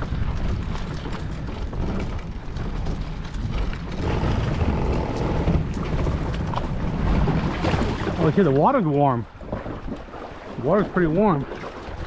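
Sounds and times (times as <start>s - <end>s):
kayak rumbling on concrete ramp: 0.0s - 12.0s
water washing: 0.0s - 12.0s
wind on microphone: 0.0s - 12.0s.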